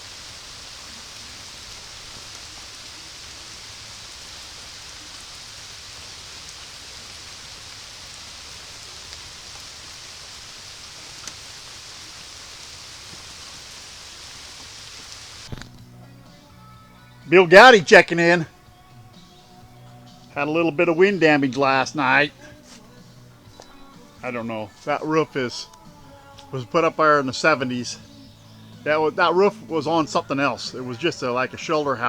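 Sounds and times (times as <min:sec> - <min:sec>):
faint ticks of raindrops: 0:00.0 - 0:15.9, 0:20.0 - 0:32.0
steady rain falling: 0:00.0 - 0:16.0, 0:17.3 - 0:18.5, 0:20.0 - 0:32.0.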